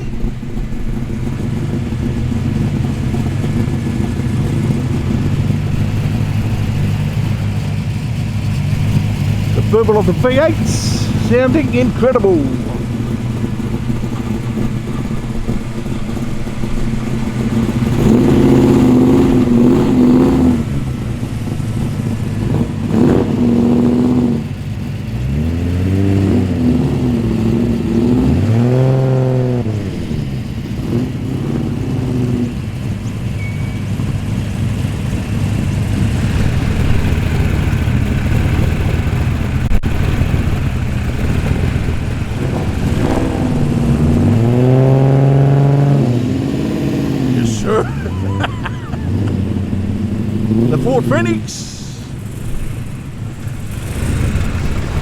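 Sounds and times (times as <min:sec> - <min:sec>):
car engines burbling and revving: 0:00.0 - 0:55.0.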